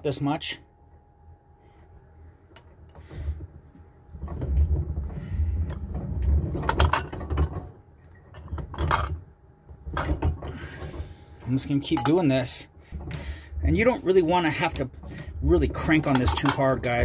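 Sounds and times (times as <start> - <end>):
rolling mill grinding rumble: 2.2 - 17.0.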